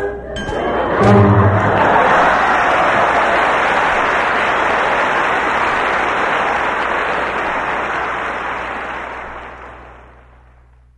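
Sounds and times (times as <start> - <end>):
audience applause: 0.6 - 10.7.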